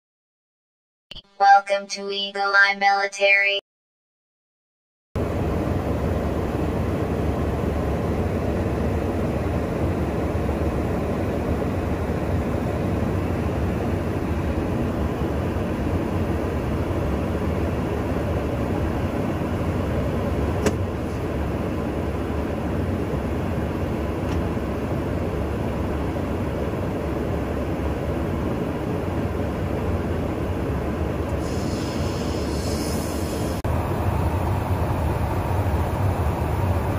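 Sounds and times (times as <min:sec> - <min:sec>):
aircraft engine drone inside cabin: 0:05.2 - 0:36.9.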